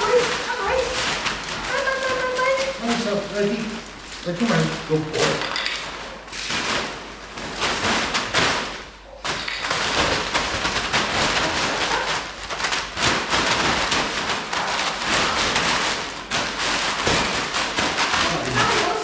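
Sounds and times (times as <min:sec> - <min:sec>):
plastic sheet crackling and rustling: 0:00.0 - 0:19.0.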